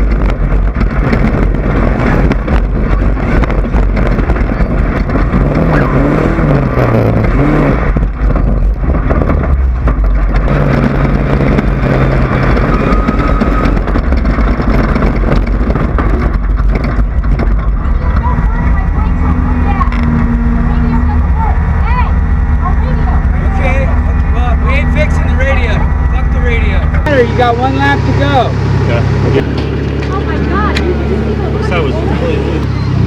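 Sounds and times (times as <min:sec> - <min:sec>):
buggy engine running at speed: 0:00.0 - 0:33.0.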